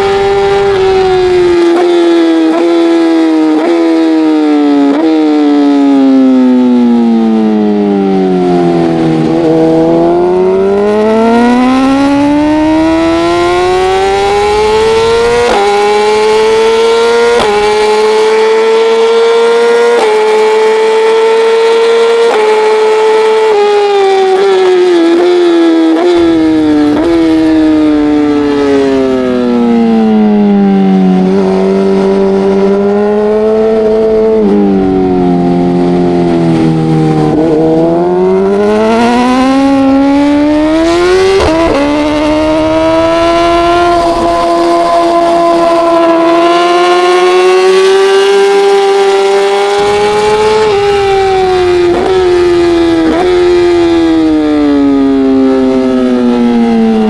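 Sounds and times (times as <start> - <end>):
racing motorcycle engine: 0.0 - 57.0.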